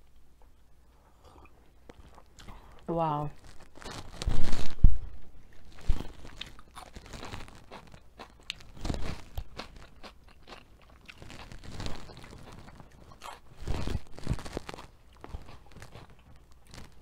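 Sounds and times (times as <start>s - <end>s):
crunchy chewing: 1.2s - 17.0s.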